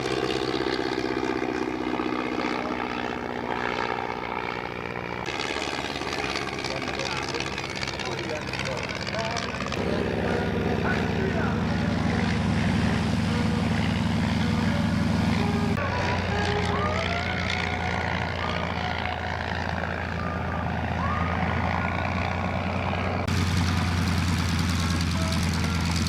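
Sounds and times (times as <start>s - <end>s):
propeller airplane droning: 0.0s - 26.0s.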